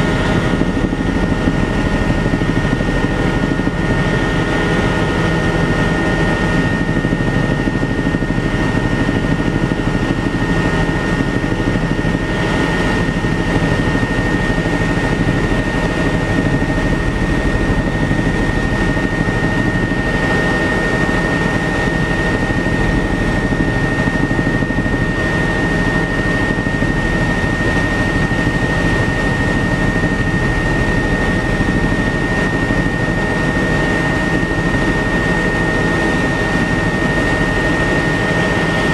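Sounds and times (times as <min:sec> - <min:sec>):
helicopter rotor and engine drone: 0:00.0 - 0:38.9
steady high whine: 0:00.0 - 0:38.9.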